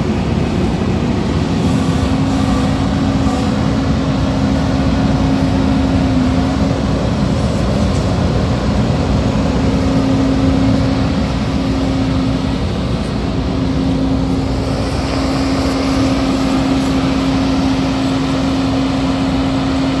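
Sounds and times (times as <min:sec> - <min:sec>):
strong constant tone: 0:00.0 - 0:20.0
tractor diesel engine running: 0:00.0 - 0:20.0.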